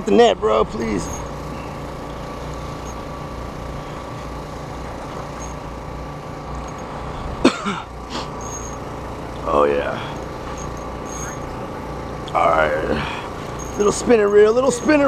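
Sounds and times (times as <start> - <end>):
generator humming: 0.0 - 15.0.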